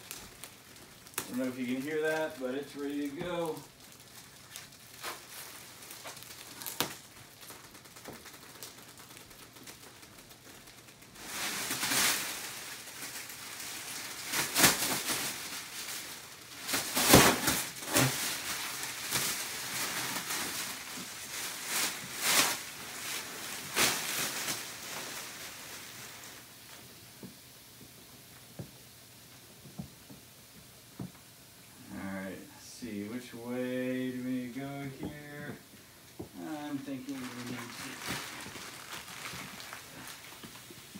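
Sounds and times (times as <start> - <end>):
plastic wrapping crinkling: 0.0 - 27.4, 33.0 - 40.9.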